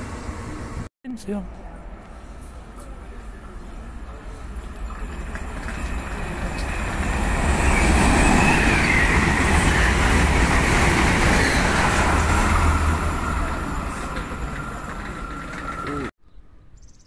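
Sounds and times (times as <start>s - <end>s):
train rushing past: 0.0s - 0.9s, 1.7s - 16.1s.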